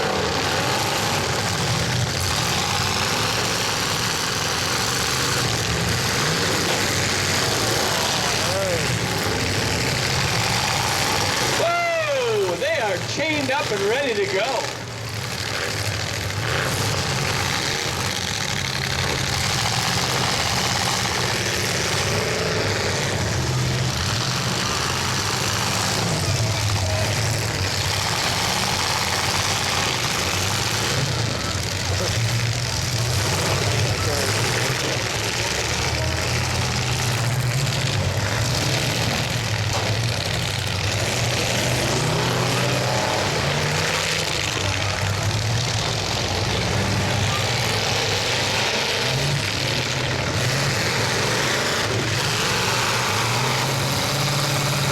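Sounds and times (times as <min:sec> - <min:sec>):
truck engines running: 0:00.0 - 0:54.9.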